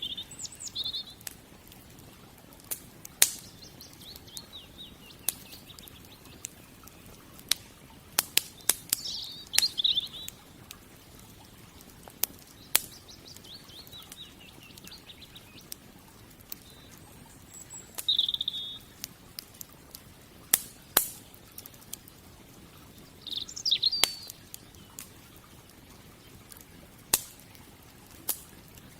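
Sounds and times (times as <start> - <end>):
burning wood popping: 0.0 - 28.9
small birds chirping: 0.0 - 28.9
wood fire crackling: 0.0 - 28.9.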